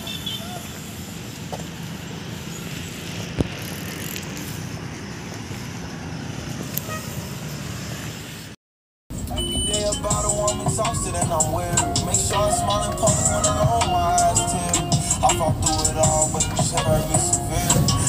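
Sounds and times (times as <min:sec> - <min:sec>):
roadside traffic rumble: 0:00.0 - 0:18.0.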